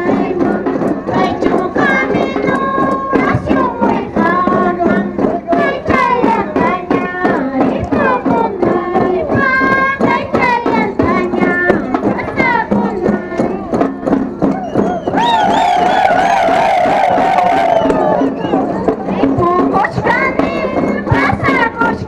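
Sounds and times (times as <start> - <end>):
high-pitched group singing: 0.0 - 22.0
small hand drums beating: 0.0 - 22.0.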